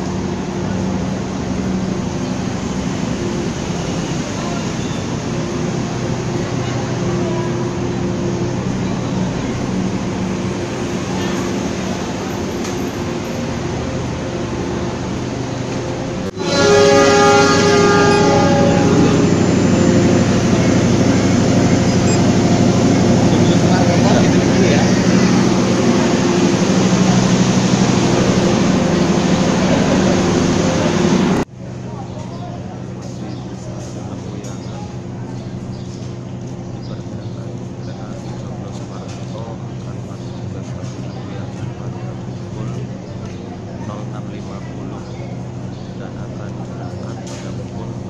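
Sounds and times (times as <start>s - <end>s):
diesel train engine humming: 0.0s - 48.0s
murmur of voices: 4.1s - 48.0s.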